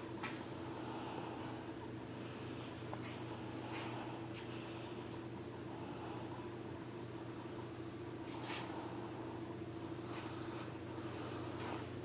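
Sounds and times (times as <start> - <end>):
room tone hum and hiss: 0.0 - 12.0.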